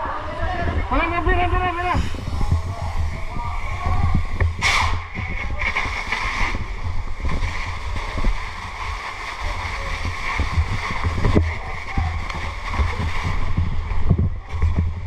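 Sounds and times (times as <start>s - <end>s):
water rushing from hoses: 0.7s - 15.0s.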